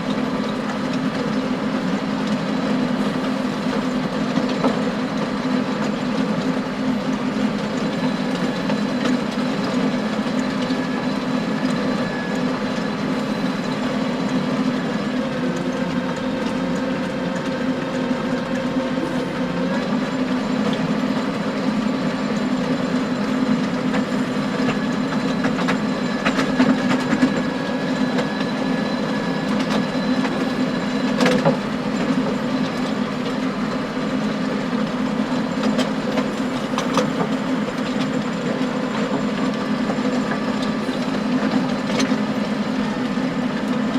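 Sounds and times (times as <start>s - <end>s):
tractor engine under load: 0.0s - 43.9s.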